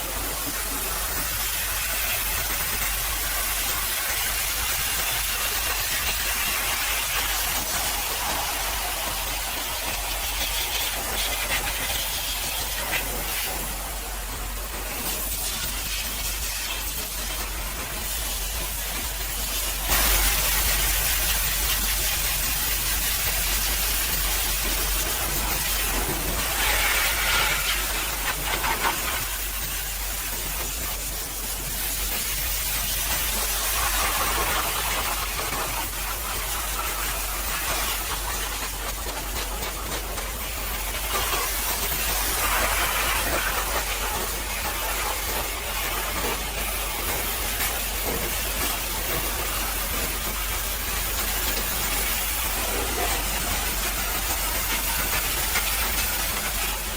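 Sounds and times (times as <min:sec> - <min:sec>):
pressure washer spraying water: 0:00.0 - 0:56.9.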